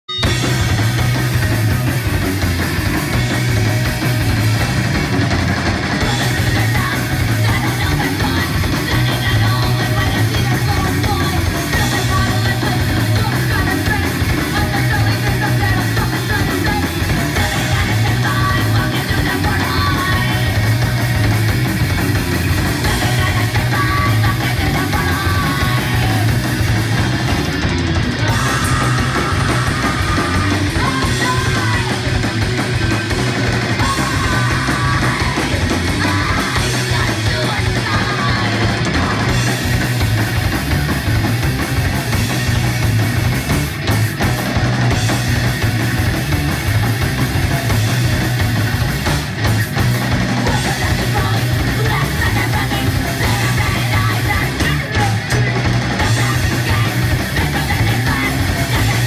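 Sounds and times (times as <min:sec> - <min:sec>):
punk band playing live: 0:00.0 - 0:59.0.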